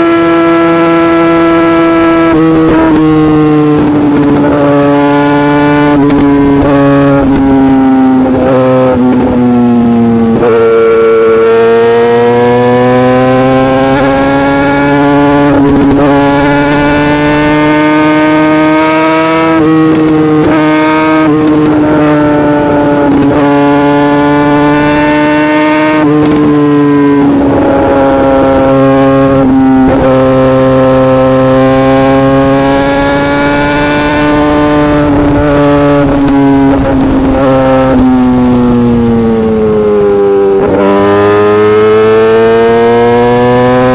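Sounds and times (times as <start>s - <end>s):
motorcycle exhaust at high revs: 0.0s - 43.9s.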